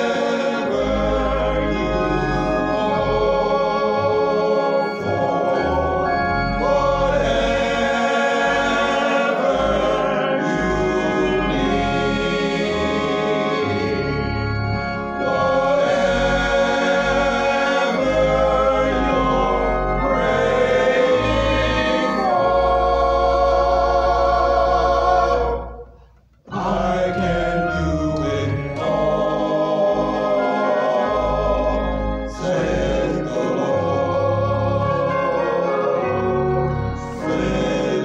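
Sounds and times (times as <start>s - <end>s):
male vocal ensemble singing: 0.0s - 25.9s, 26.5s - 38.0s
pipe organ: 0.0s - 38.0s.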